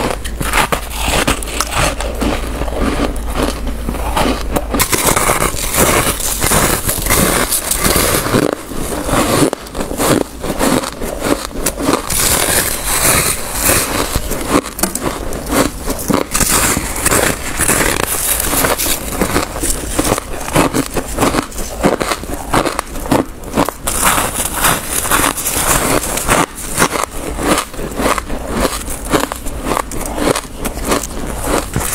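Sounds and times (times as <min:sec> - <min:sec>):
crunching frozen frost: 0:00.0 - 0:31.9.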